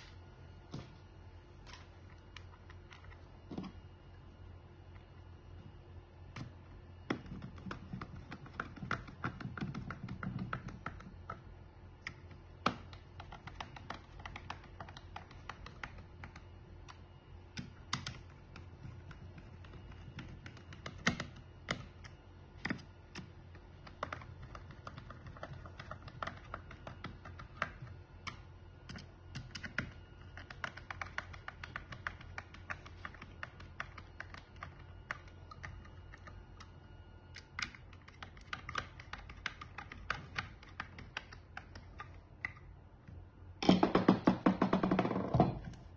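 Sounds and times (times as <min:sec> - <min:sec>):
low steady hum: 0:00.0 - 0:45.9.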